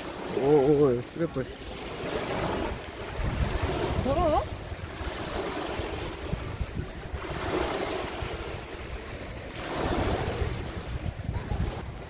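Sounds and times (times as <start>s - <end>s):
small waves washing on sand: 0.0s - 12.0s
wind buffeting microphone: 0.0s - 12.0s.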